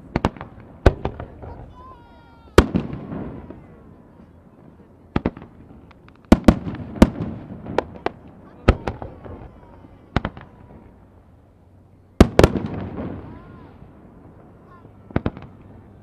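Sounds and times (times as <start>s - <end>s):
fireworks bangs with echo: 0.0s - 11.6s, 12.2s - 16.0s.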